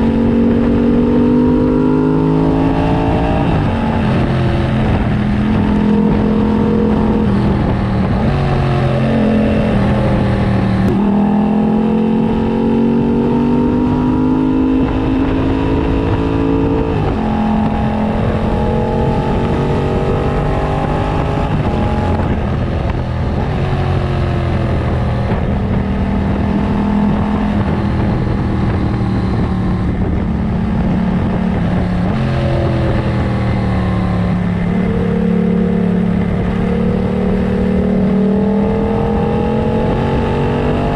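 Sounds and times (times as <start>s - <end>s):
motorcycle engine revving through gears: 0.0s - 40.9s
wind rushing: 0.0s - 40.9s.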